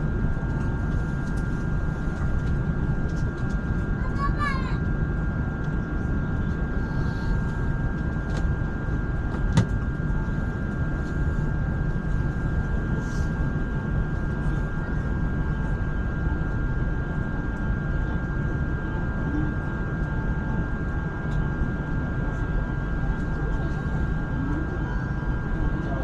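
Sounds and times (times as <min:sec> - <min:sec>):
train rumble inside carriage: 0:00.0 - 0:26.0.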